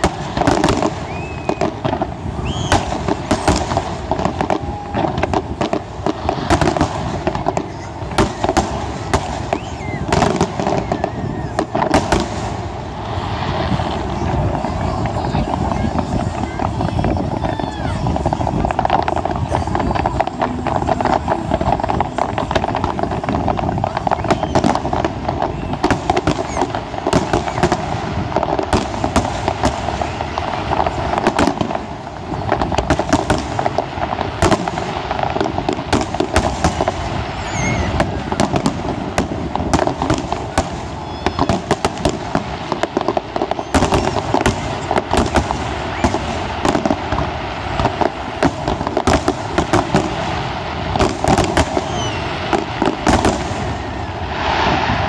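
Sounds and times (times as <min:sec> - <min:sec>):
continuous crackle: 0:00.0 - 0:55.0
fireworks cracks and bangs: 0:00.0 - 0:55.0.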